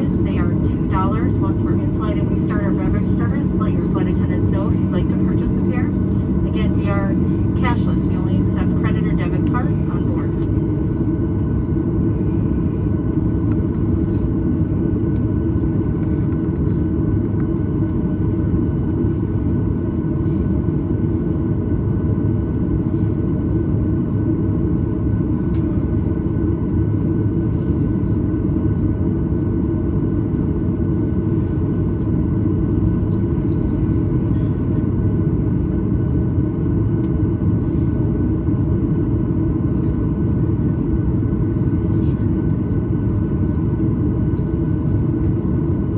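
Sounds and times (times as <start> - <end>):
aircraft cabin rumble: 0.0 - 45.9
faint engine whine tones: 0.0 - 45.9.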